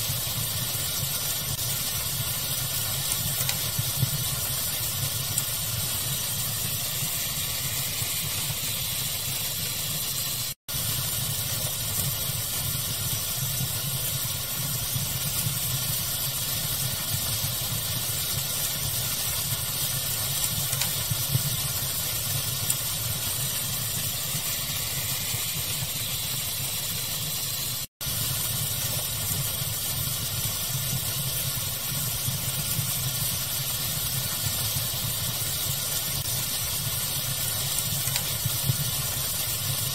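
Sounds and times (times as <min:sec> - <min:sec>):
fire crackling: 0:00.0 - 0:39.9
pink noise hiss: 0:00.0 - 0:39.9.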